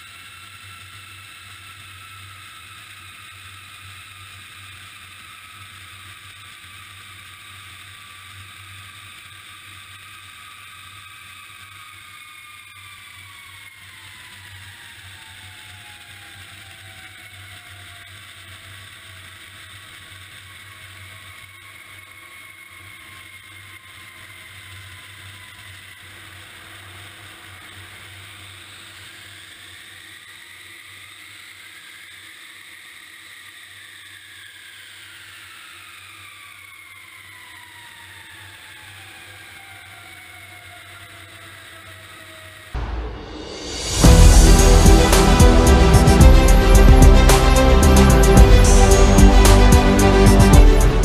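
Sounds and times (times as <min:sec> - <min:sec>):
jet engine roar: 0:00.0 - 0:51.0
whining turbine tones: 0:00.0 - 0:51.0.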